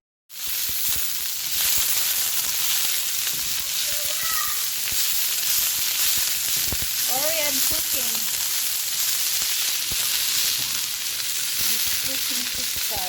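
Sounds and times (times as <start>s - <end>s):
vegetables sizzling in a pan: 0.3s - 13.0s.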